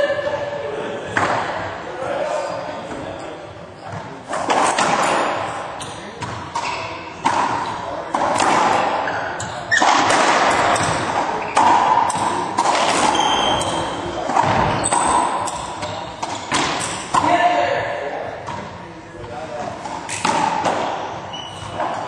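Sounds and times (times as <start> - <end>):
racquetball hits echoing: 1.0 - 1.8, 2.8 - 22.0.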